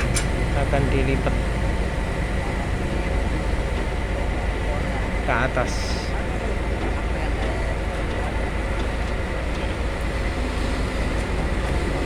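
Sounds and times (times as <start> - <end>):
heavy diesel engines rumbling: 0.0 - 12.0.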